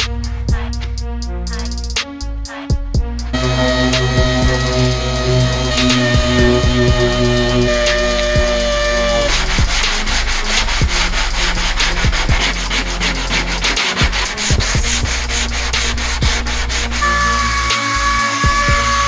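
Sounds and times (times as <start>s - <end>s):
sandpaper rasping on body filler: 3.4s - 19.0s.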